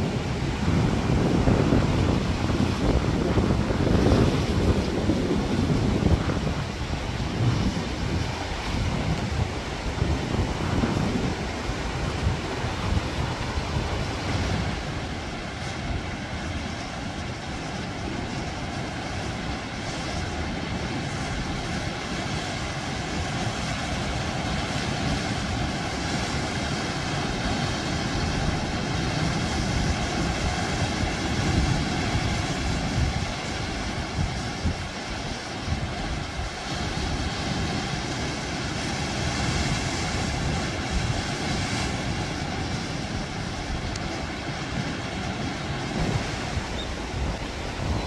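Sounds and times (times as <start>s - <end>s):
surf washing around rocks: 0.0s - 48.0s
wind rumbling on microphone: 0.0s - 48.0s.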